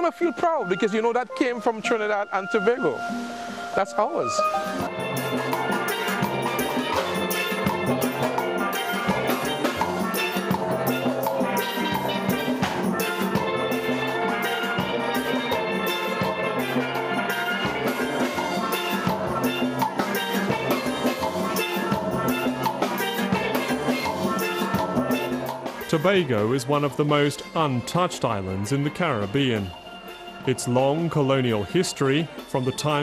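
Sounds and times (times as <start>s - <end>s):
steel pans playing melody: 0.1s - 33.0s
percussion beat: 4.4s - 33.0s.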